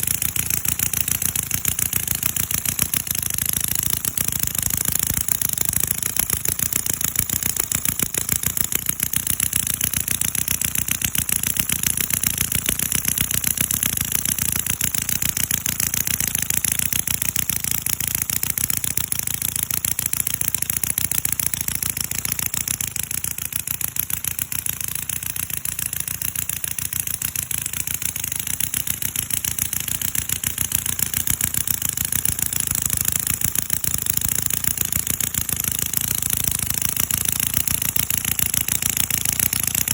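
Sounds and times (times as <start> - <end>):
model engine running: 0.0 - 39.9.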